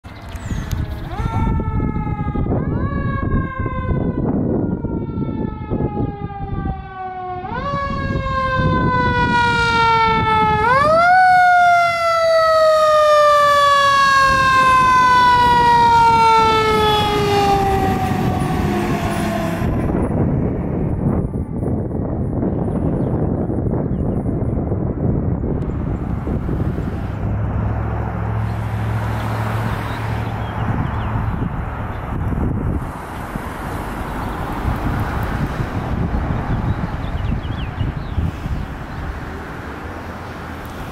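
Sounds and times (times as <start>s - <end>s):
truck engine and tyre noise: 0.0s - 40.9s
fire engine siren whooping: 0.4s - 23.8s, 24.6s - 40.9s.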